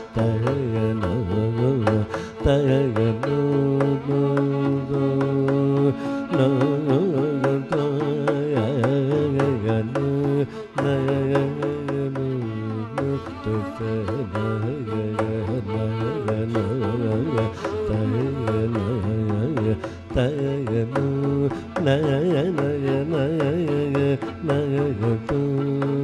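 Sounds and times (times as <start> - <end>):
hand drum strokes: 0.0 - 26.0
man singing: 0.0 - 26.0
violin: 0.0 - 26.0.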